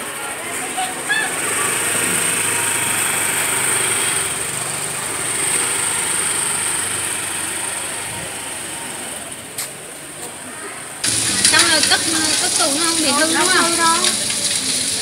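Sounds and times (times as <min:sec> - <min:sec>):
motor scooter engine pulling away: 0:01.3 - 0:09.5, 0:11.0 - 0:15.0.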